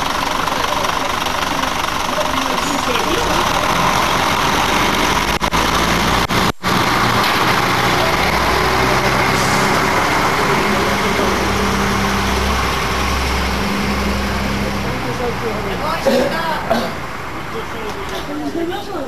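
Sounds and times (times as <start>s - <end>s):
bus engine humming: 0.0s - 19.0s.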